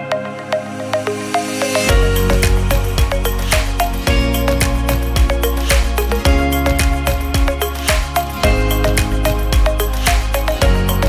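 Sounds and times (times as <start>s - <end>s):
background music with percussive beat: 0.0s - 11.0s.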